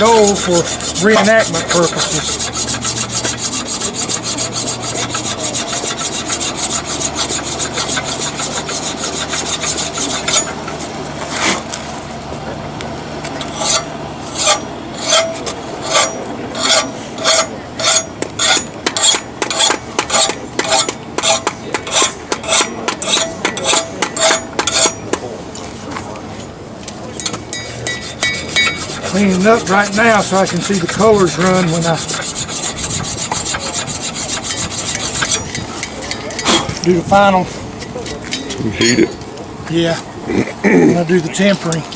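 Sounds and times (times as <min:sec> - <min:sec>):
file scraping steel: 0:00.0 - 0:11.7, 0:13.3 - 0:25.2, 0:27.2 - 0:39.2, 0:41.0 - 0:41.9.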